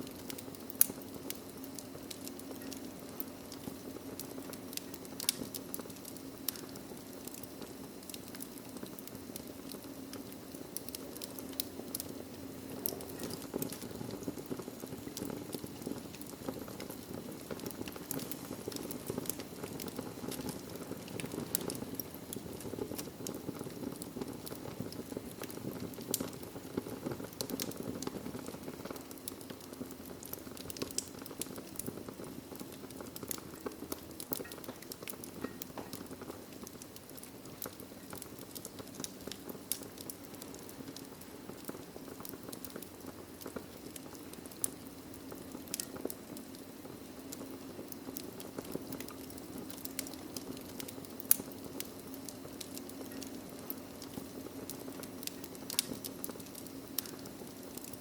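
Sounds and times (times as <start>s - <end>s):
fire snaps and pops: 0.0s - 58.0s
low rush of flame: 0.0s - 58.0s
wood fire crackling: 0.0s - 58.0s.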